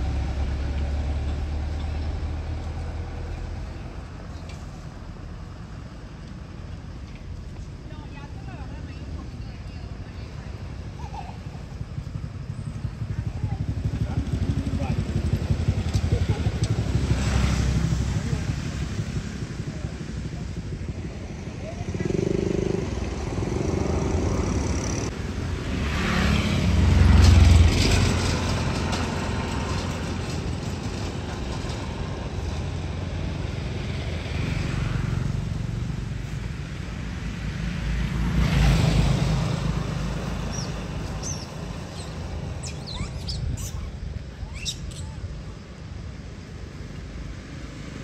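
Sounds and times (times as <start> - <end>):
motor vehicles passing: 0.0 - 48.0.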